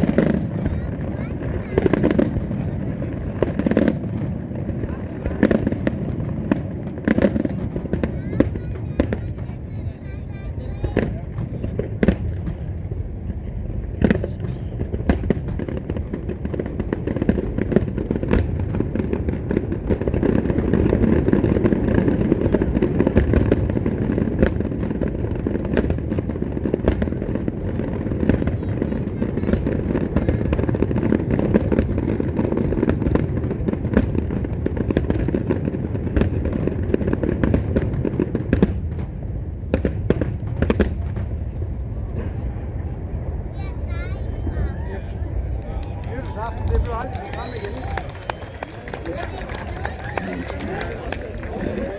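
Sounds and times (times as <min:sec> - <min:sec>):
fireworks bangs and crackles: 0:00.0 - 0:51.9
rumble of firework bursts: 0:00.0 - 0:51.9.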